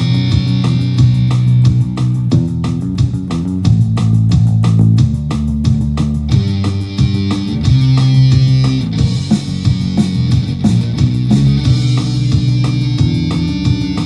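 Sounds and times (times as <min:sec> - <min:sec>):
punk rock song: 0:00.0 - 0:14.0.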